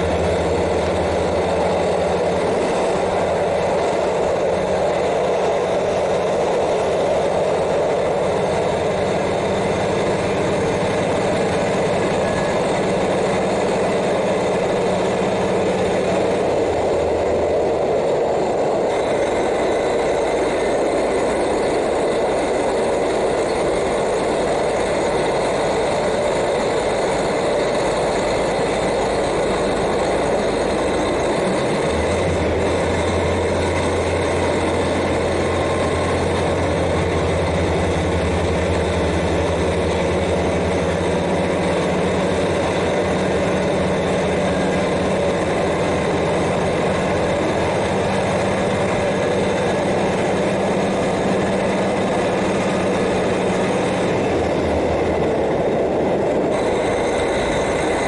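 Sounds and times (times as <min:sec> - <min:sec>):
diesel railcar engine: 0:00.0 - 0:58.0
train rolling on rails: 0:00.0 - 0:58.0.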